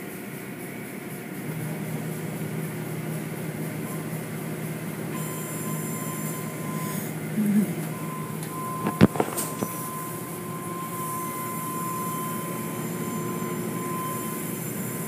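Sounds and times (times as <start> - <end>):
car wash machinery humming: 0.0 - 15.0
thin steady tone: 0.0 - 15.0.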